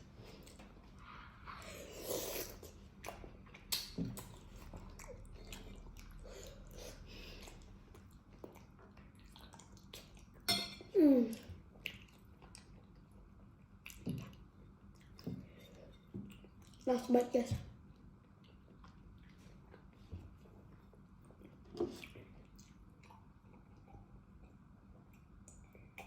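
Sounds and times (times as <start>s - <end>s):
chewing and mouth smacks: 0.2s - 10.5s, 11.4s - 16.9s, 17.9s - 26.0s.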